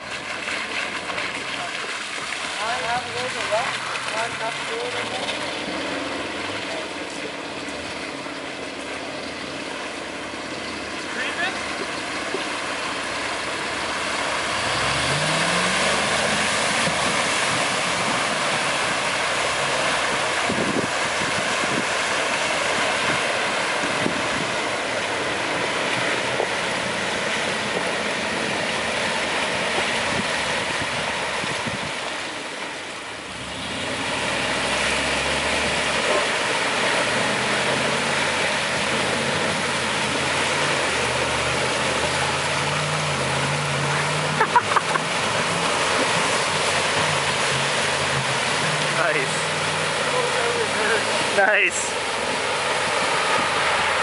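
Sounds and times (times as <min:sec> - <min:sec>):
spinning tyres throwing mud: 0:00.0 - 0:54.0
truck engine revving hard: 0:02.4 - 0:32.4, 0:33.2 - 0:54.0.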